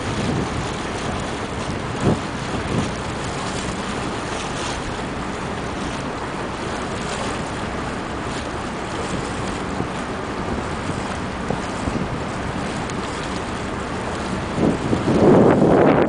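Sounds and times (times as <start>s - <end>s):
low engine hum: 0.0s - 16.0s
water noise: 0.0s - 16.0s
wind buffeting microphone: 0.0s - 16.0s.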